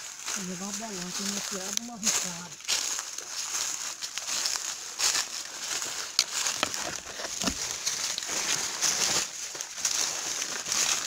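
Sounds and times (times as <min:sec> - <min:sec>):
branches brushing: 0:00.0 - 0:11.0
footsteps crunching dry leaves: 0:00.0 - 0:11.0.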